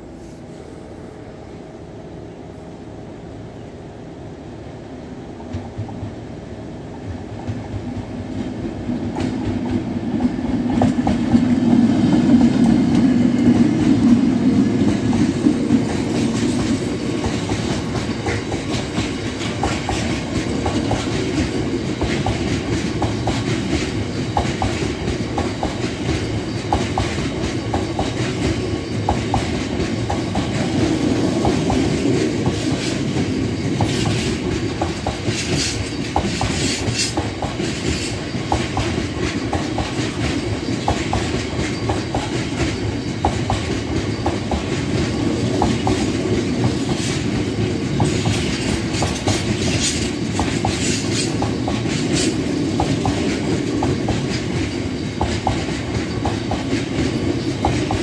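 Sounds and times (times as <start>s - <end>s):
freight train locomotive passing: 0.0s - 58.0s
train wagons rumbling: 6.9s - 58.0s
wheels clacking over rail joints: 7.3s - 58.0s.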